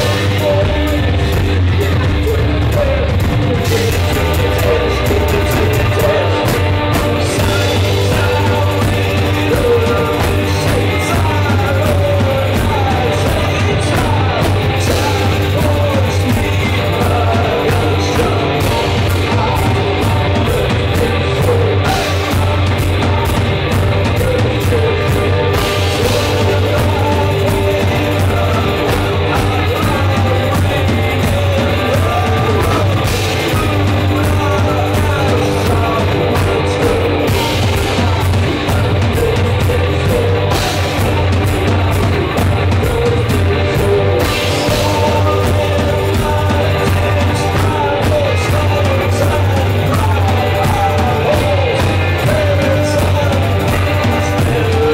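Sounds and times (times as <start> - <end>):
drums: 0.0 - 54.9
electric guitar: 0.0 - 54.9
man singing into a microphone: 0.0 - 54.9.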